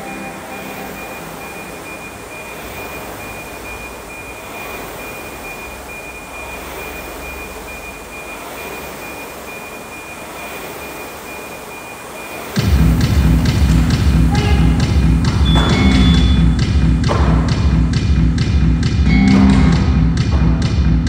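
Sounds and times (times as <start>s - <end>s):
rowing machine fans whirring: 0.0s - 21.0s.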